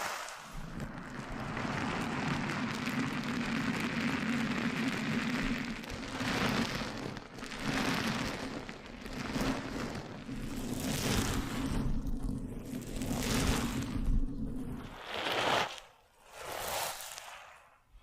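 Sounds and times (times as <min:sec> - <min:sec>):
close crackling and rustling: 0:00.0 - 0:17.7.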